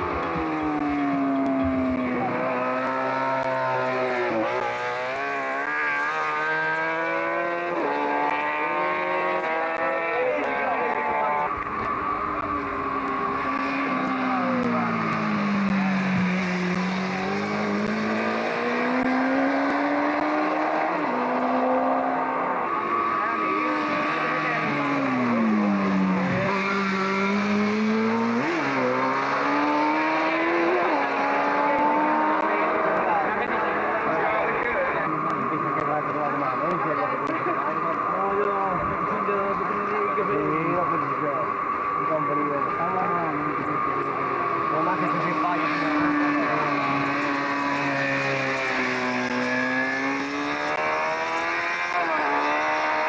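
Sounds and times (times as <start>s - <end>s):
rally car engine accelerating: 0.0s - 53.0s.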